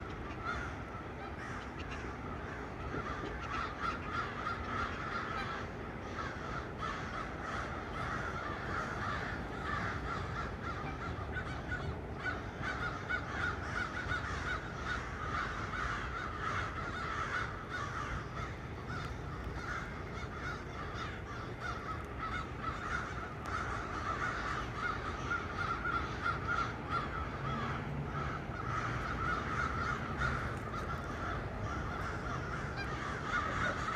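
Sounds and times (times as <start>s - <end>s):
crows cawing: 0.0s - 33.9s.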